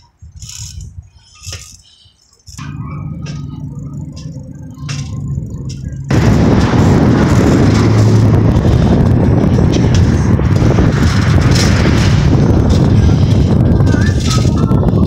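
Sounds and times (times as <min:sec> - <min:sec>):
wind buffeting microphone: 0:00.0 - 0:15.0
low vehicle hum: 0:02.5 - 0:15.0.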